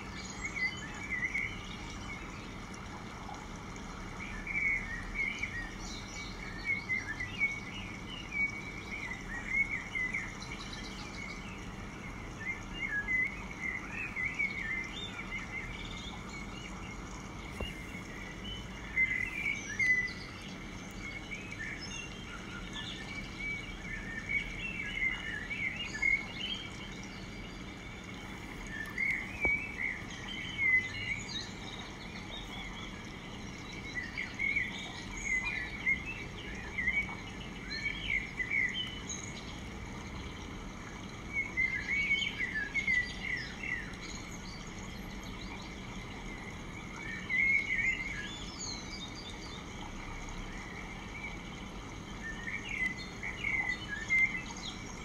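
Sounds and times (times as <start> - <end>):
birds chirping: 0.0 - 55.0
low background hum: 0.0 - 55.0.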